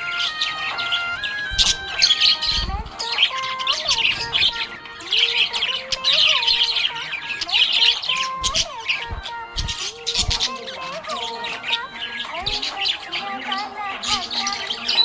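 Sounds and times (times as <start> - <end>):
budgerigar chirping and chattering: 0.0 - 15.0.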